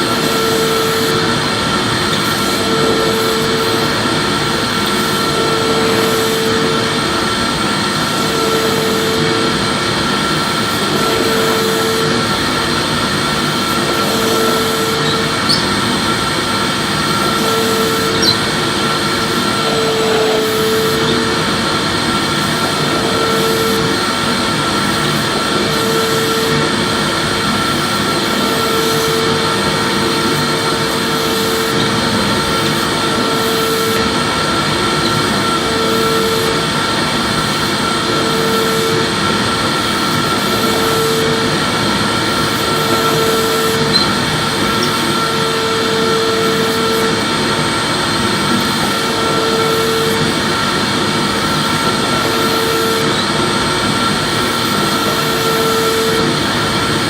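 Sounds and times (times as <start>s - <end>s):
humming whine: 0.0s - 57.0s
vacuum cleaner running: 0.0s - 57.0s.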